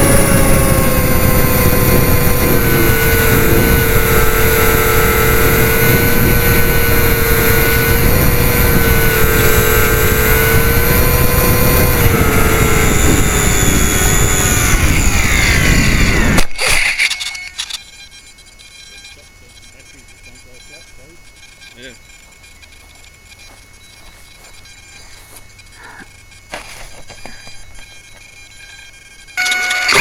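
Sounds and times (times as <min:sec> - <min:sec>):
model plane motors whining: 0:00.0 - 0:30.0.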